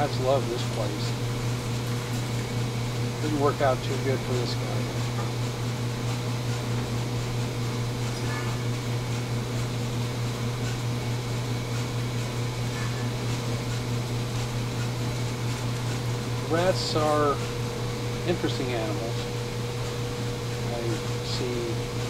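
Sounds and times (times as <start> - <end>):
fan motor humming: 0.0 - 22.0.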